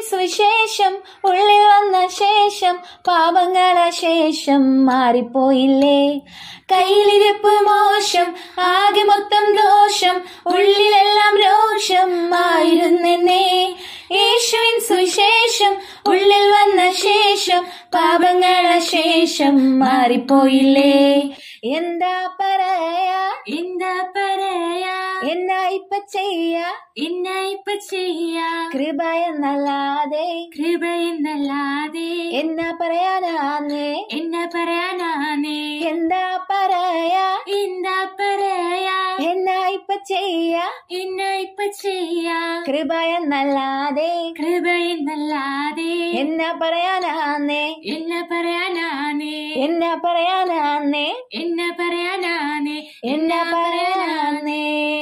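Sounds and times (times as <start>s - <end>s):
women singing unaccompanied: 0.0s - 55.0s.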